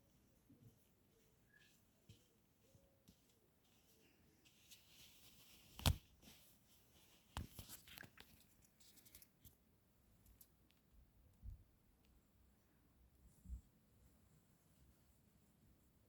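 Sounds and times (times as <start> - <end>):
quiet rustling: 0.0 - 16.0.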